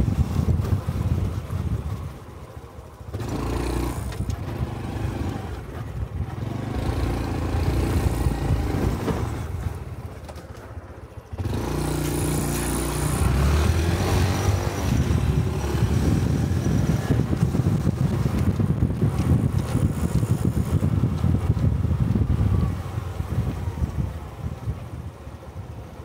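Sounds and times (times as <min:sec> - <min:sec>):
wind noise on microphone: 0:00.0 - 0:10.5, 0:11.3 - 0:26.0
motorcycle engine running: 0:00.0 - 0:25.0.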